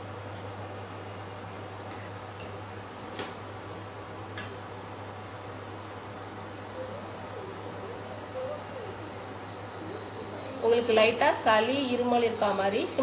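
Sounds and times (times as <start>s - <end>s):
pot boiling with hiss: 0.0s - 13.0s.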